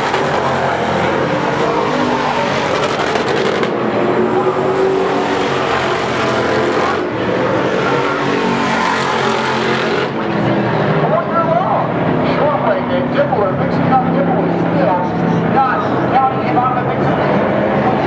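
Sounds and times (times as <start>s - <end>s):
race car engines at speed: 0.0s - 18.0s.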